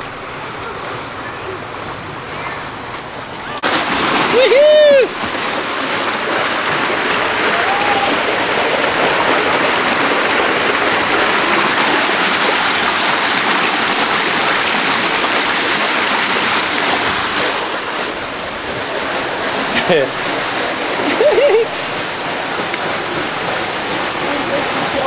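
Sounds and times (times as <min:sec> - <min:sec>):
water rushing down a slide: 0:00.0 - 0:25.0.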